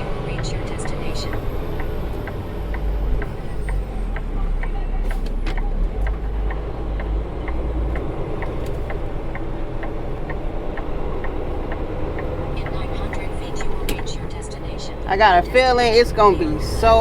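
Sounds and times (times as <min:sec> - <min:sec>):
truck engine rumbling: 0:00.0 - 0:17.0
turn signal ticking: 0:00.0 - 0:17.0.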